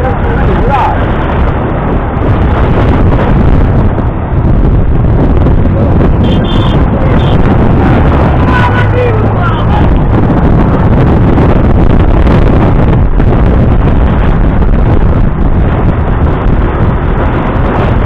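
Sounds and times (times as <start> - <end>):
wind buffeting microphone: 0.0 - 18.0
motorcycle engine running: 2.2 - 17.9.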